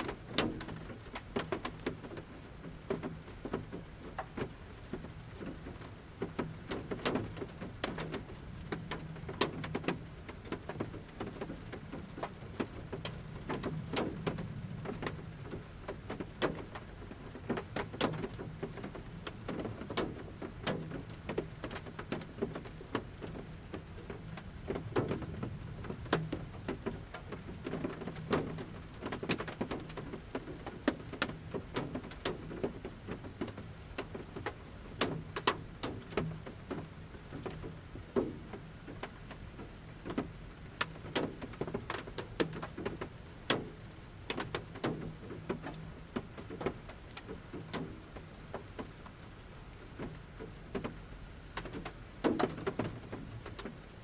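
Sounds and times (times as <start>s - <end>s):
light rain: 0.0s - 54.0s
raindrops striking van roof: 0.0s - 54.0s.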